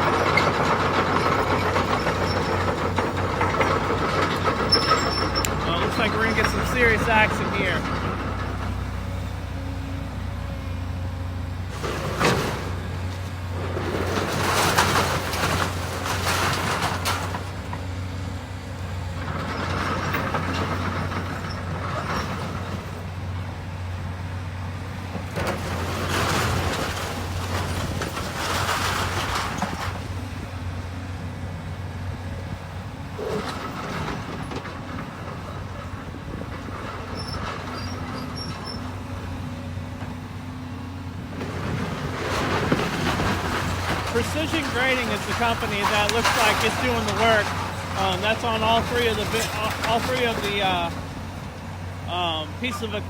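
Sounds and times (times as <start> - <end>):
demolition machine engine drone: 0.0 - 53.0.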